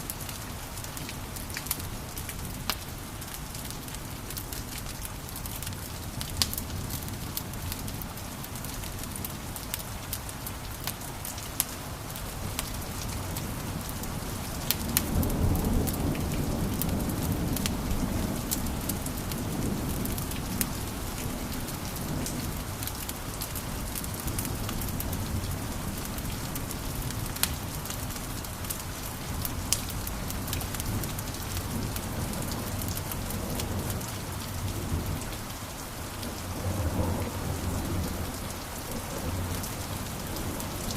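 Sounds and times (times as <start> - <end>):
wood fire crackling: 0.0 - 34.7.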